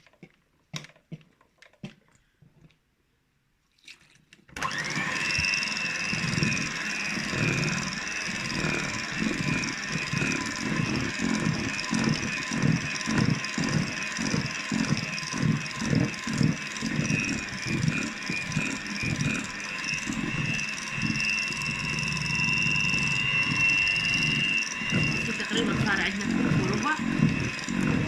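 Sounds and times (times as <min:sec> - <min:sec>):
electric mixer whining: 0:04.6 - 0:28.0.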